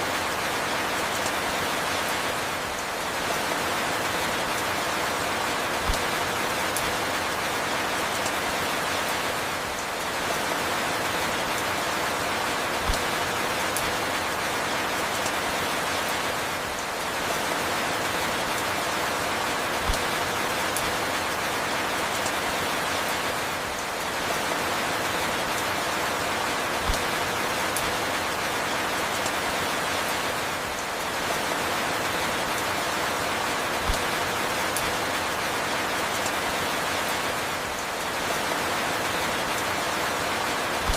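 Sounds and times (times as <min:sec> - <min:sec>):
steady falling rain: 0:00.0 - 0:40.9.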